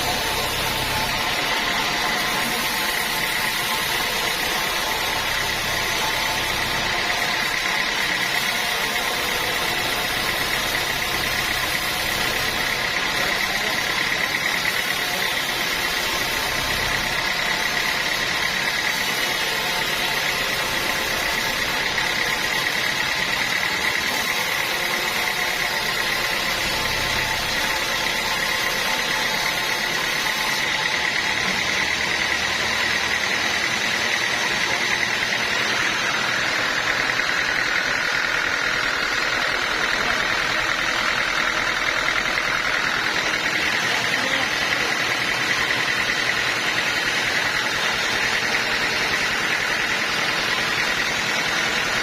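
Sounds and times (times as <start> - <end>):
sawmill saw whining: 0.0 - 52.0.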